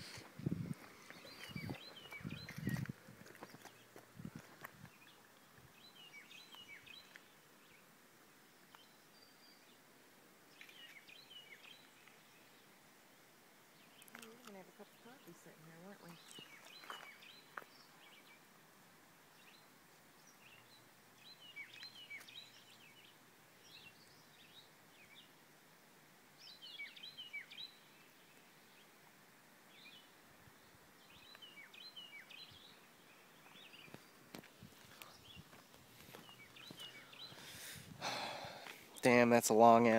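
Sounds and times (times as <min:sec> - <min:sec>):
faint birdsong chirps: 0:00.0 - 0:39.9.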